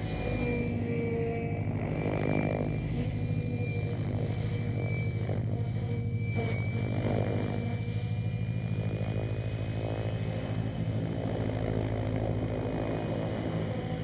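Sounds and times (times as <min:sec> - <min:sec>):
helicopter rotor blades chopping: 0:00.0 - 0:14.0
thin high whine: 0:00.0 - 0:14.0.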